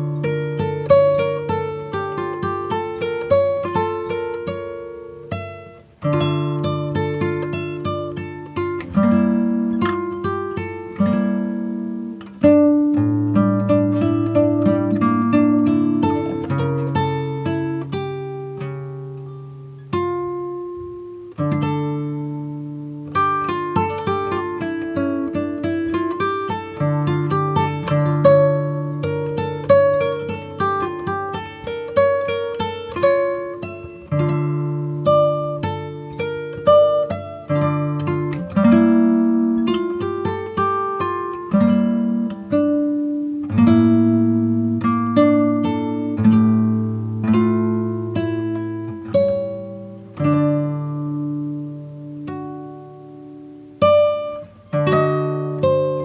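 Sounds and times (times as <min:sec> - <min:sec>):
plucked acoustic guitar: 0:00.0 - 0:56.0.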